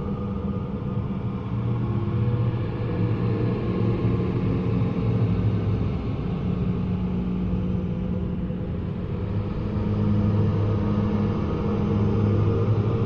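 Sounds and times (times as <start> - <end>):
dark low drone: 0.0 - 13.0.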